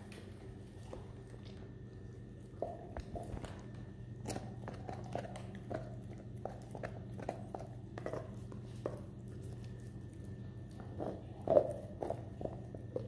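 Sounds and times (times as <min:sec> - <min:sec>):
dog gnawing bone: 0:00.0 - 0:13.0
steady low hum: 0:00.0 - 0:13.0.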